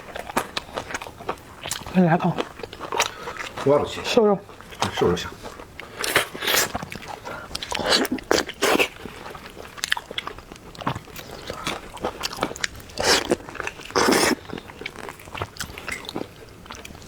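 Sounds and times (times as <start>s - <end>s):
chewing and biting food: 0.0s - 17.0s.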